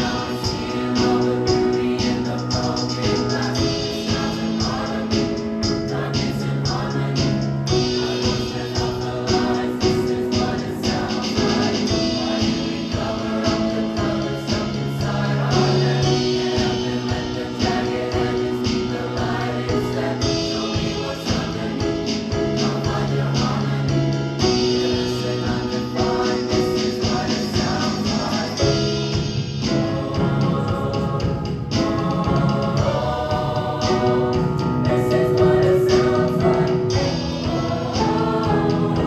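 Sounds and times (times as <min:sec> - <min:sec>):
choir singing held chords: 0:00.0 - 0:39.0
steady percussive beat: 0:00.0 - 0:39.0.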